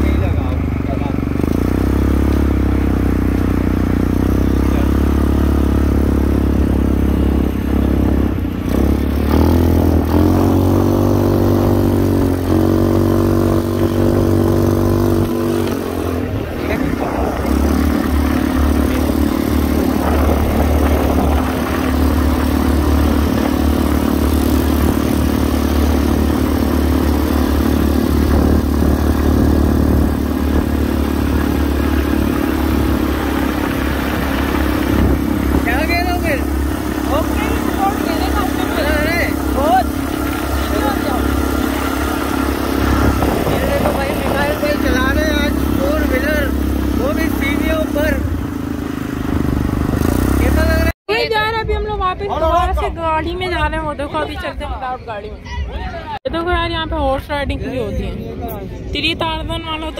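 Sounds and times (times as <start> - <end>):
quad bike engine running: 0.0 - 51.8.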